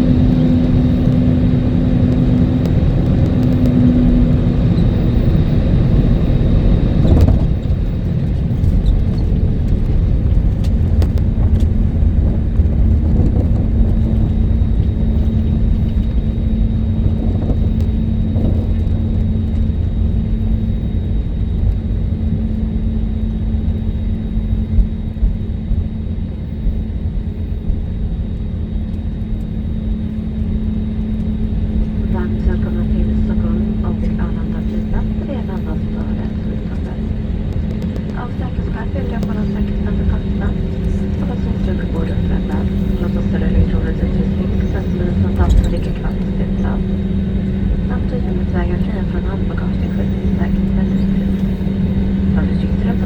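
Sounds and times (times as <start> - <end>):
aircraft cabin rumble: 0.0 - 53.0
constant hum: 0.0 - 53.0.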